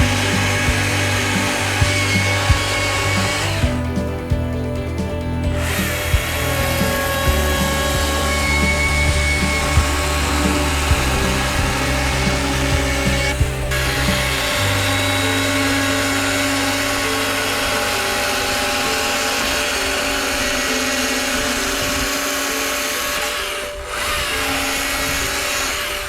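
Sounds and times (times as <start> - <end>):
power tool carving wood: 0.0 - 26.0.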